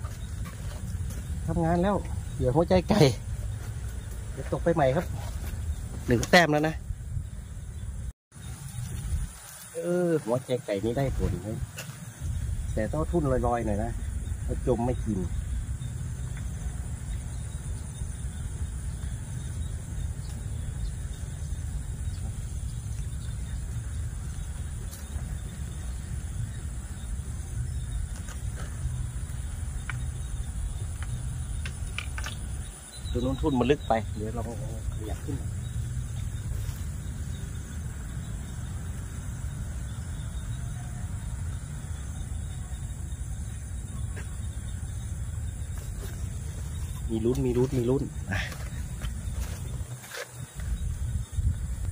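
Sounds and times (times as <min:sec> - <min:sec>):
wind rumble on microphone: 0:00.0 - 0:09.4, 0:10.9 - 0:51.9
insects trilling: 0:00.0 - 0:51.9.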